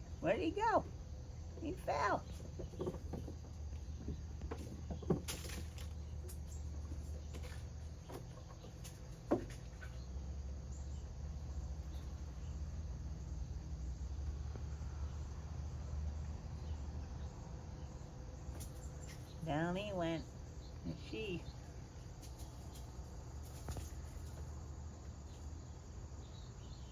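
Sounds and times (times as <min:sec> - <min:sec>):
faint insects chirping: 0:00.0 - 0:26.9
low outdoor rumble: 0:00.0 - 0:26.9.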